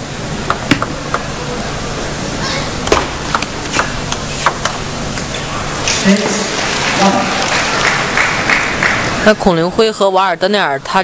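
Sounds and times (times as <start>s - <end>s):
crowd hum: 0.0s - 10.1s.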